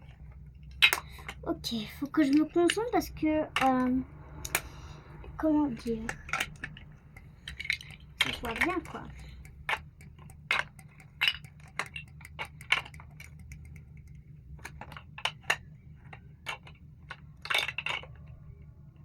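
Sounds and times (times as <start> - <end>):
plastic bricks clicking together: 0.6 - 4.8, 5.8 - 18.4.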